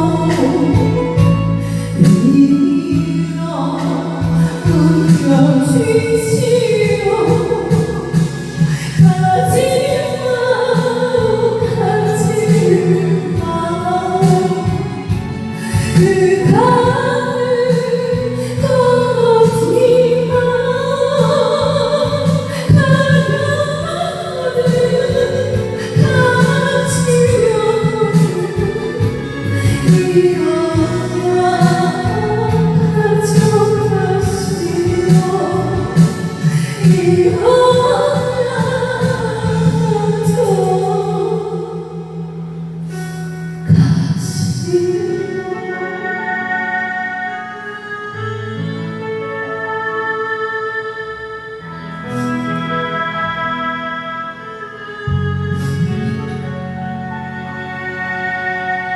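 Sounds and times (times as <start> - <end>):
backing track accompaniment: 0.0 - 58.9
person singing ballad with vibrato: 0.0 - 58.9.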